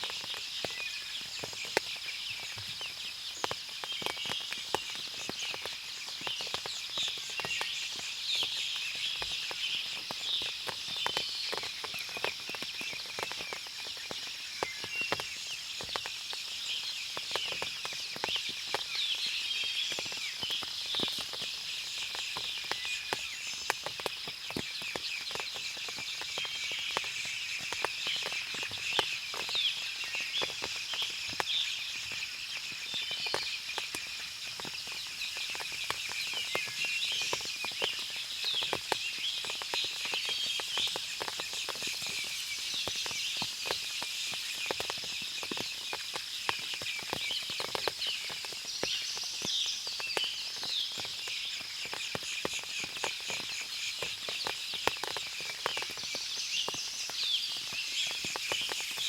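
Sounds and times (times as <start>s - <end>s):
chorus of bird chirps: 0.0s - 59.0s
sharp drips and clicks: 0.0s - 59.0s.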